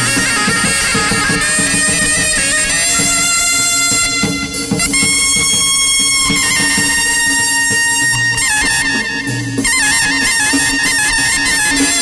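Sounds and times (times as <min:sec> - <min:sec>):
drum strokes: 0:00.0 - 0:12.0
reedy wind instrument melody: 0:00.0 - 0:12.0.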